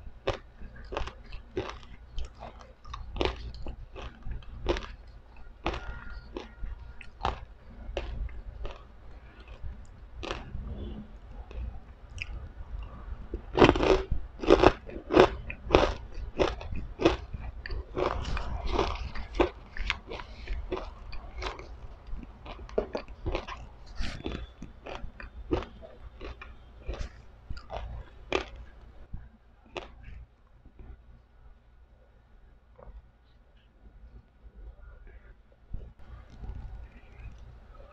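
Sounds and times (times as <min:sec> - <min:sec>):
crunchy chewing: 0:00.0 - 0:28.9, 0:29.7 - 0:30.2, 0:35.8 - 0:37.9.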